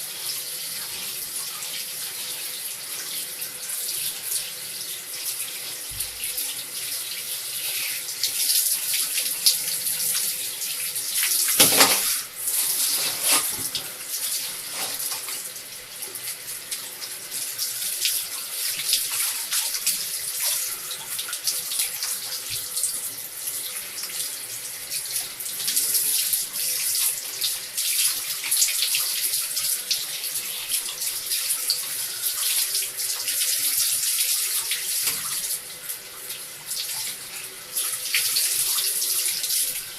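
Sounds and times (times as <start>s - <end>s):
tap water running and splashing: 0.0s - 39.9s.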